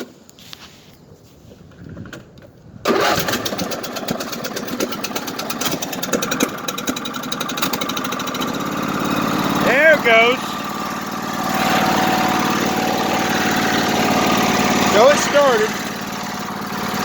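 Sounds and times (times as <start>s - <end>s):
riding mower engine starting: 1.6s - 17.0s.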